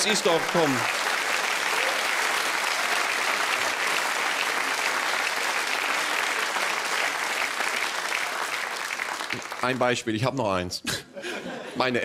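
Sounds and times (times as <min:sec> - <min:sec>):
audience clapping: 0:00.0 - 0:10.2.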